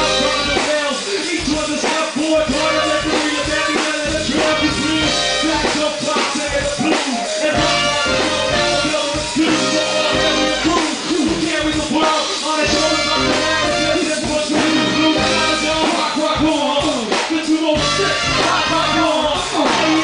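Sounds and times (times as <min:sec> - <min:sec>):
drums: 0:00.0 - 0:20.0
person rapping into microphone: 0:00.0 - 0:20.0.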